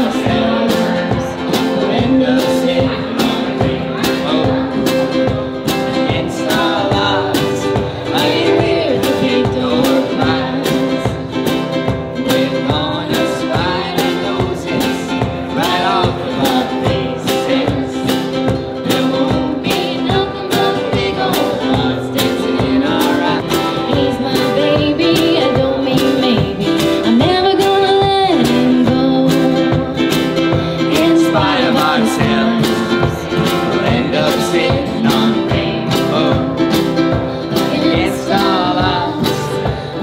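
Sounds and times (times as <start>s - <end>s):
person singing: 0.0s - 40.0s
steady drum beat: 0.0s - 40.0s
strummed acoustic guitar: 0.0s - 40.0s.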